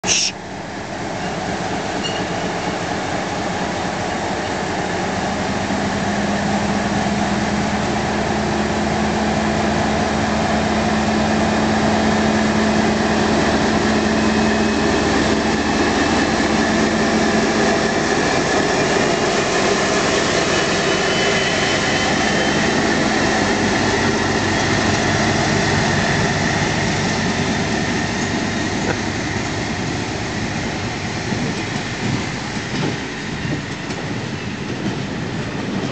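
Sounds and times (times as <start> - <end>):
diesel locomotive engine working: 0.0 - 35.9.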